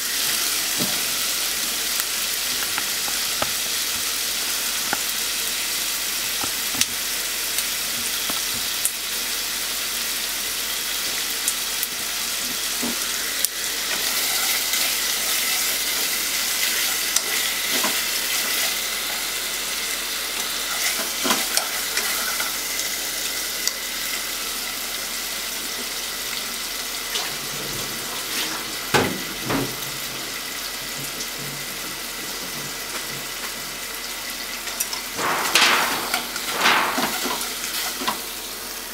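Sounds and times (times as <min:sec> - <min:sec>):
chicken sizzling in hot oil: 0:00.0 - 0:38.9.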